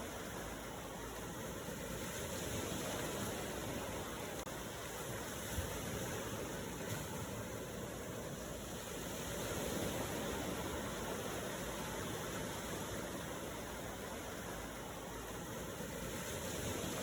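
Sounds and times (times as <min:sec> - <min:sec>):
ocean waves rushing: 0:00.0 - 0:17.0.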